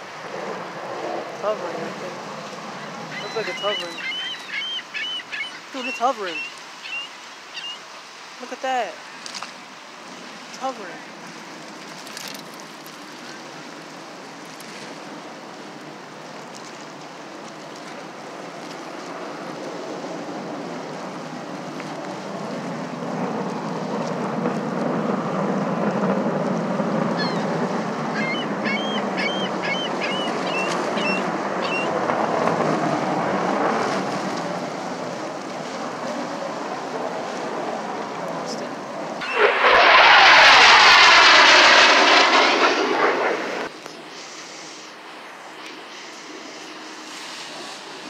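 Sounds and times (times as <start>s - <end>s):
distant jet engine rushing: 0.0s - 11.8s, 12.5s - 48.0s.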